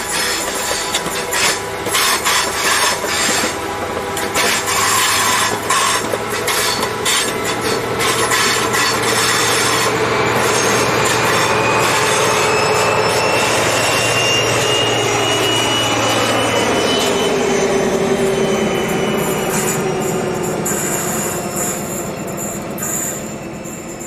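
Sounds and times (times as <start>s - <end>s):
thin whine: 0.0s - 24.0s
train wheels clattering on rails: 0.0s - 24.0s.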